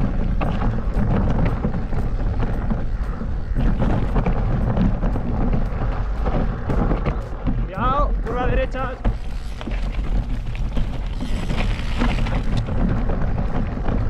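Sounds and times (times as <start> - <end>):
bike rattling clicks: 0.0 - 14.0
bike tyres rumbling on trail: 0.0 - 14.0
wind buffeting: 0.0 - 14.0.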